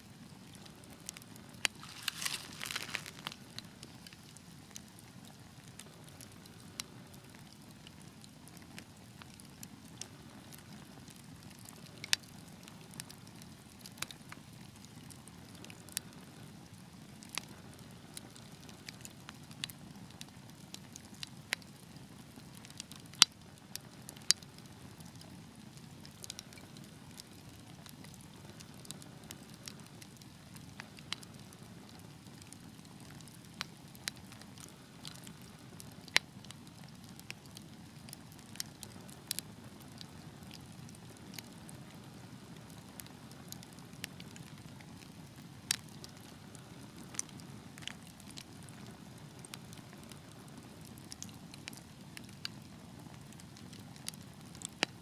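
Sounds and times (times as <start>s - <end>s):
fireplace fire crackling: 0.0s - 55.0s
low rumble of flame: 0.0s - 55.0s.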